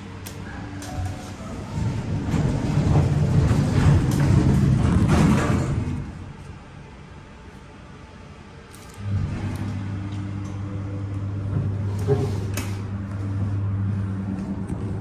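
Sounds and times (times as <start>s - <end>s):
elevator pump motor humming: 0.0s - 15.0s.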